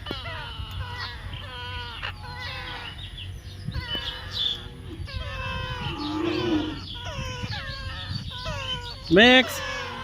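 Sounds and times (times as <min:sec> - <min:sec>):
baby parrot calling: 0:00.0 - 0:10.0.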